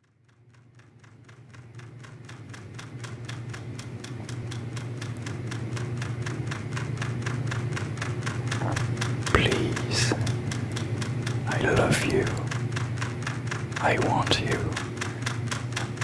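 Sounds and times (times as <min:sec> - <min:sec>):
steady low hum: 0:00.0 - 0:16.0
fast even ticking: 0:00.2 - 0:16.0.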